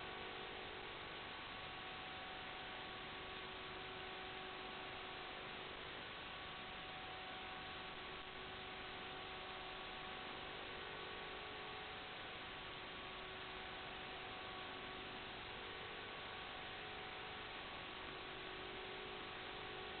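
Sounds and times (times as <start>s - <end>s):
faint hum tones: 0.0s - 20.0s
static hiss: 0.0s - 20.0s.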